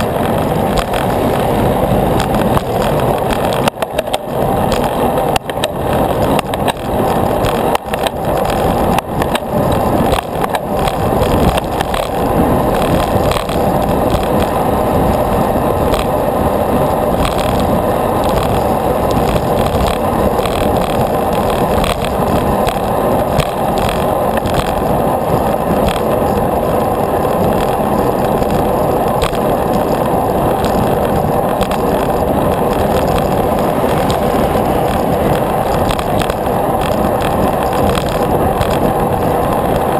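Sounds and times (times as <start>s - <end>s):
bicycle knocks and rattles: 0.0s - 39.9s
bicycle rolling over pavement: 0.0s - 39.9s.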